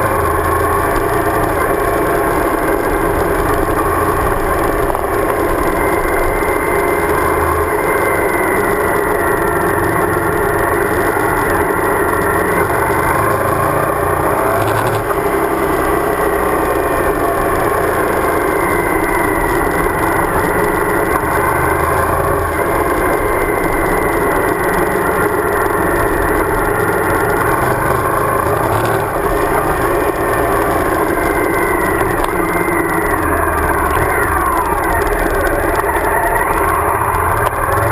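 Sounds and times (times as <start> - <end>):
motorcycle engine running: 0.0 - 37.9
wind rumble: 0.0 - 37.9.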